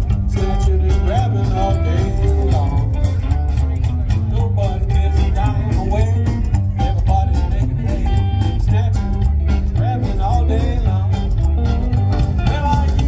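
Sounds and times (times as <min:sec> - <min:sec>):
rockabilly band playing: 0:00.0 - 0:13.0.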